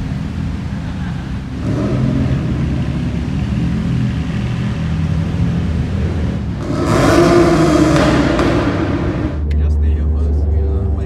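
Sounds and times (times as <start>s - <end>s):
car accelerating: 0.0s - 11.0s
car engine rumbling: 0.0s - 11.0s.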